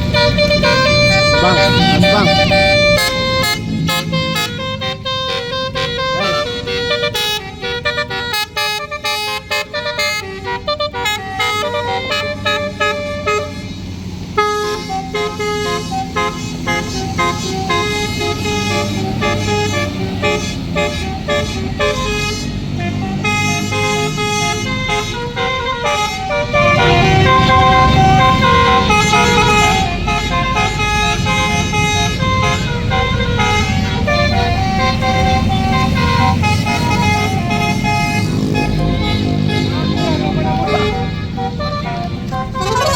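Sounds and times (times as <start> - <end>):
low rumble of bus engine: 0.0 - 42.9
musical bus horn melody: 0.0 - 42.9.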